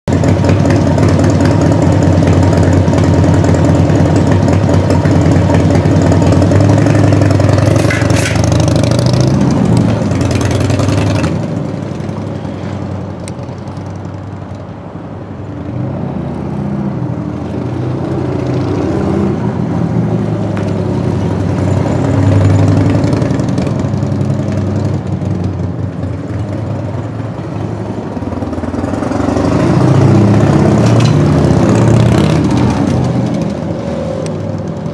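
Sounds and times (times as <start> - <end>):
motorcycle engine revving and idling: 0.1 - 14.4, 16.5 - 34.9.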